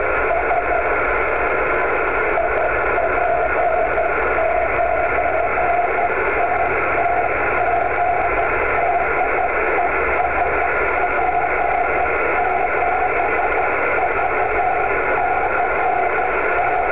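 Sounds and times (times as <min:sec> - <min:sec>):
distorted morse code tone: 0:00.0 - 0:16.9
receiver hiss: 0:00.0 - 0:16.9.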